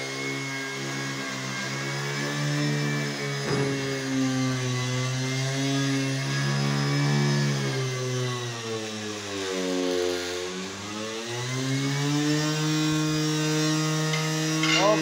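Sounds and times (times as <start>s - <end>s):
electric sander motor whine: 0.0s - 15.0s.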